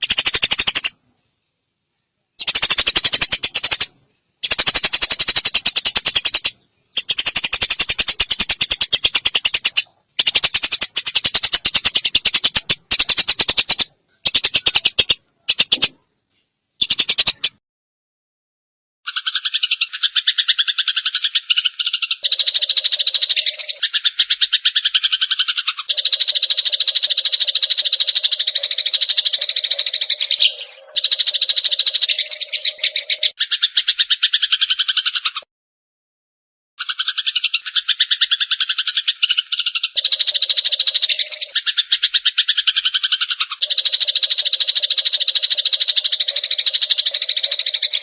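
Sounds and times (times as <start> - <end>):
sparrows chattering: 0.0 - 1.0, 2.4 - 16.0, 16.8 - 17.6, 19.1 - 35.4, 36.8 - 48.0.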